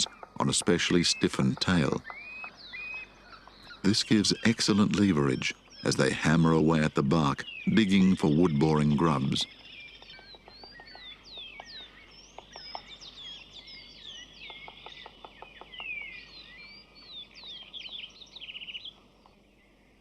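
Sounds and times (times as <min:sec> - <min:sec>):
woodpecker hammering: 0:00.0 - 0:19.4
bird trill: 0:00.0 - 0:20.0
birds chirping and whistling: 0:00.0 - 0:20.0.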